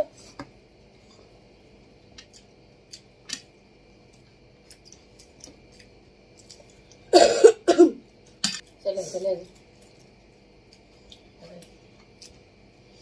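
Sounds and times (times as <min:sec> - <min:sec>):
people chewing food: 0:00.0 - 0:07.1, 0:08.0 - 0:13.0.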